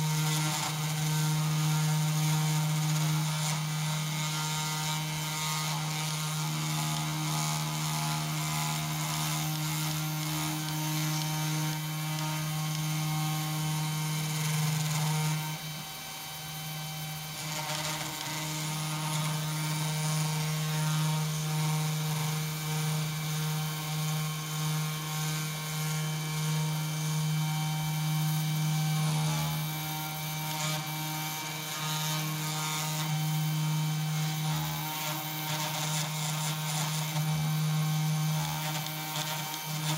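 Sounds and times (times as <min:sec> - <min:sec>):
router spindle humming: 0:00.0 - 0:39.9.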